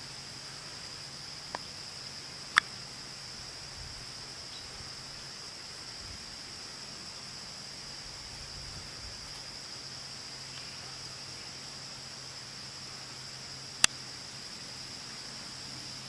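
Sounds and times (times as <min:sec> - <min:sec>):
background hiss: 0:00.0 - 0:16.0
insects trilling: 0:00.0 - 0:16.0.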